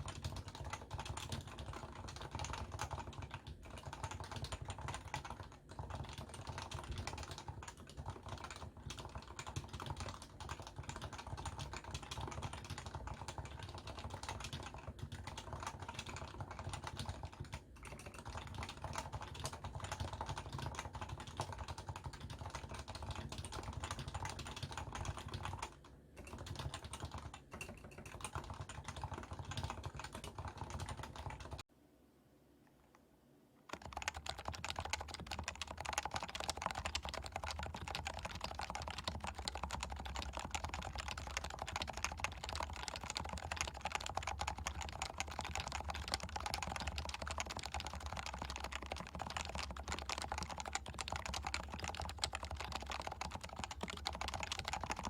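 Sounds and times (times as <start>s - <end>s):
keyboard typing: 0.0s - 31.7s, 33.7s - 55.0s.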